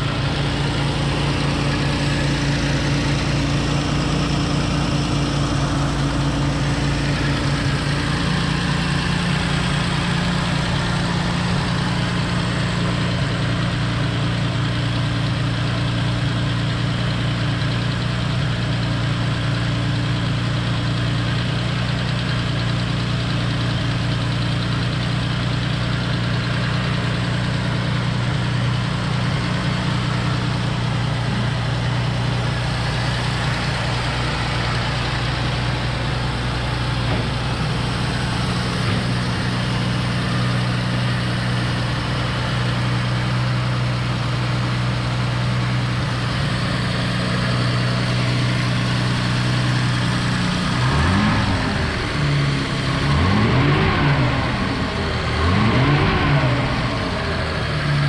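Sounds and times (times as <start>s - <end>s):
car engine fast idling: 0.0s - 58.0s.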